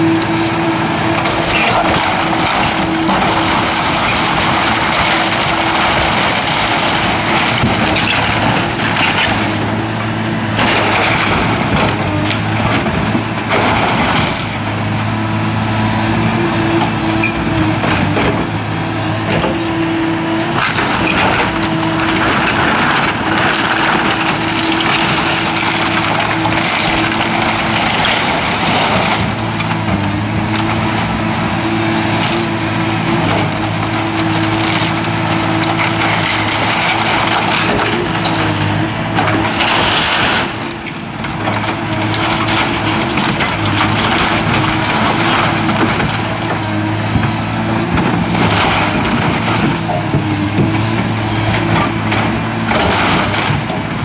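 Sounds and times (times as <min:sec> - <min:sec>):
excavator diesel engine running: 0:00.0 - 0:54.0
wood cracking and splintering: 0:00.0 - 0:54.0.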